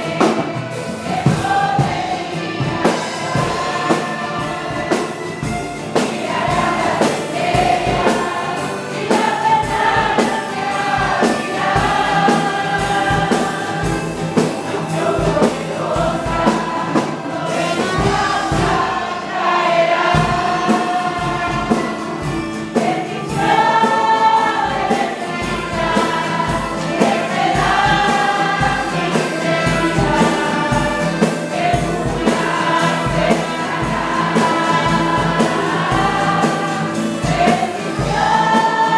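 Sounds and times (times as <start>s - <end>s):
band accompaniment: 0.0s - 38.9s
choir singing a hymn: 0.0s - 38.9s
steady drum beat: 0.0s - 38.9s.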